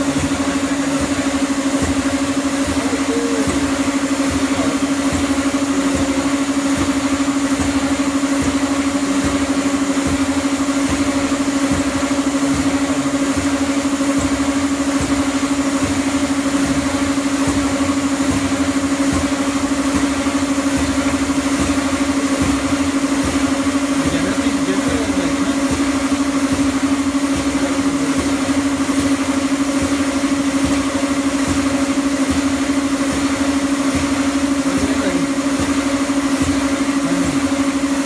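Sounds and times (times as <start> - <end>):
loud machine hum: 0.0 - 38.0.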